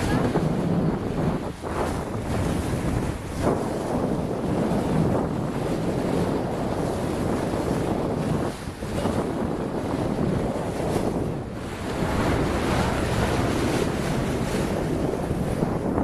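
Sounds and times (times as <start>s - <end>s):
water rushing at boat bow: 0.0s - 16.0s
wind buffeting microphone: 0.0s - 16.0s.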